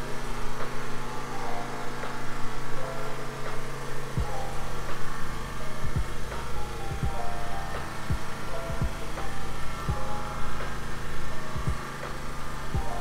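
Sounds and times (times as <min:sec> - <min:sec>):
mellow electronic music: 0:00.0 - 0:13.0.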